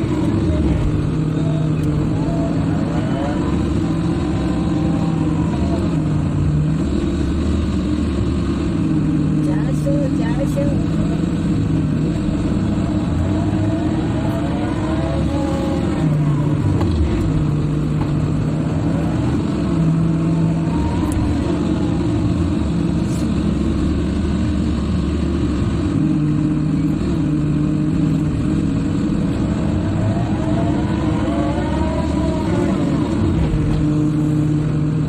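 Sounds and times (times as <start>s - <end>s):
hydraulic whine: 0.0s - 9.3s, 10.4s - 35.0s
diesel engine running under load: 0.0s - 35.0s.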